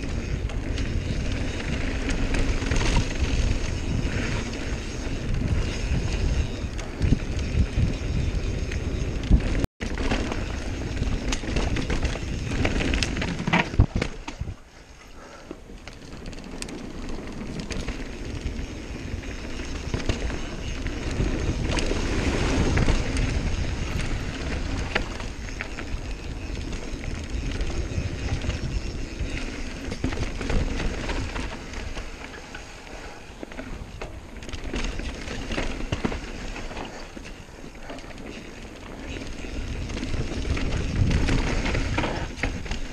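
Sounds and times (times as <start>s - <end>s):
bike knocking and clacking: 0.0s - 14.6s, 15.3s - 42.9s
wind rushing over microphone: 0.0s - 14.8s, 16.8s - 37.2s, 38.4s - 42.9s
tyres on dirt: 0.0s - 42.9s.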